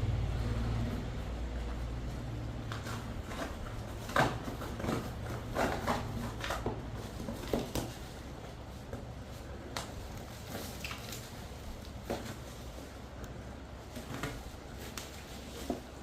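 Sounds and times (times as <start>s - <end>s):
low steady hum: 0.0s - 16.0s
cardboard box being handled: 2.6s - 16.0s.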